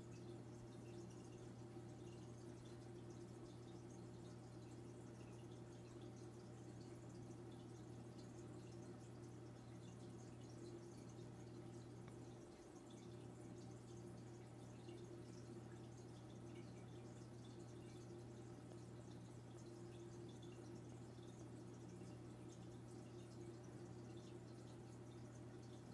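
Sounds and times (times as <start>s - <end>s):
aquarium filter hum: 0.0s - 25.9s
water dripping and trickling: 0.0s - 25.9s.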